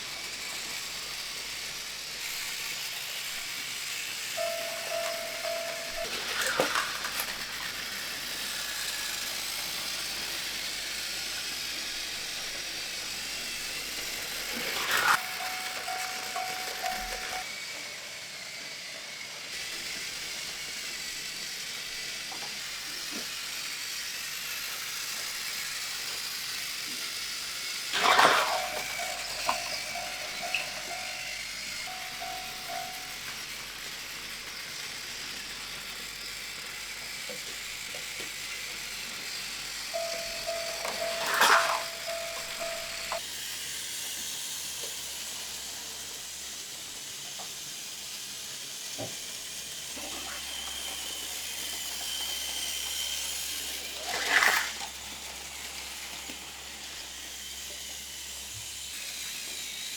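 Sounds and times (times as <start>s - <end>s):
toy trains running on track: 0.0s - 59.9s.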